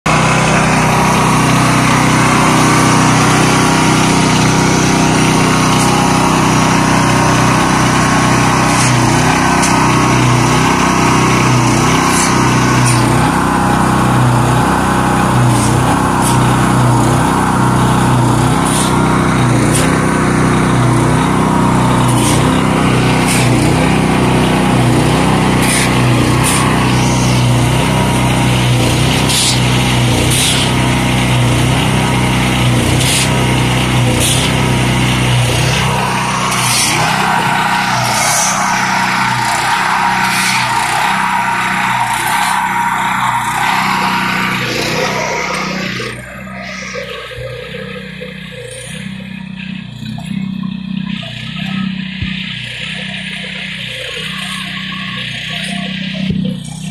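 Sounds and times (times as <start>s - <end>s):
small engine droning: 0.0s - 56.9s.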